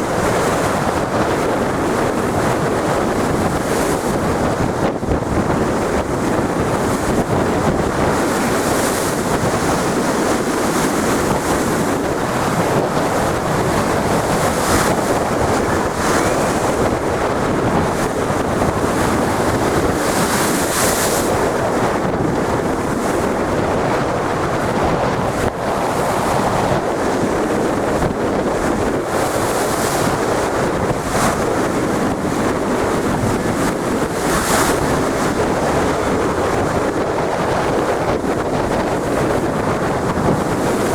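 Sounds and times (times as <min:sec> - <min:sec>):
big sea waves breaking: 0:00.0 - 0:40.9
wind buffeting microphone: 0:00.0 - 0:40.9.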